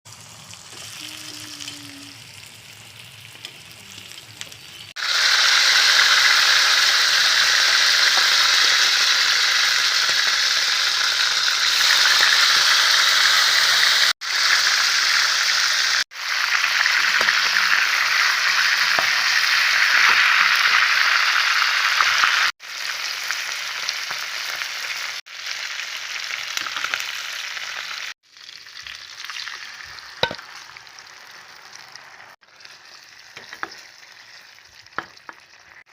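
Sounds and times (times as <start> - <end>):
chicken sizzling while frying: 0.1 - 35.9.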